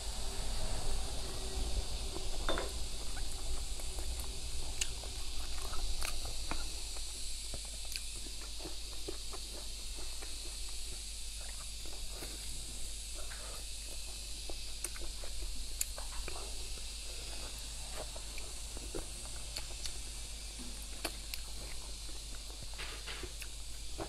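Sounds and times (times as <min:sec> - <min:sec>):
faint hiss: 0:00.0 - 0:24.0
chewing and lip smacking: 0:03.1 - 0:12.6, 0:13.2 - 0:20.0, 0:20.8 - 0:24.0.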